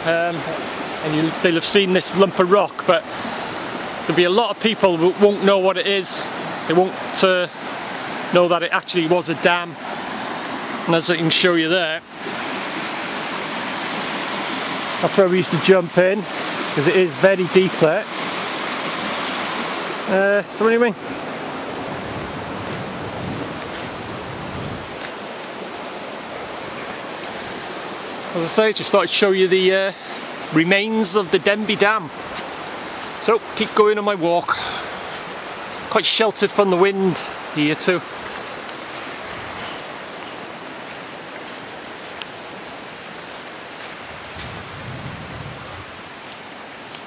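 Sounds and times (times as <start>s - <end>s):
river rushing over rocks: 0.0s - 47.0s.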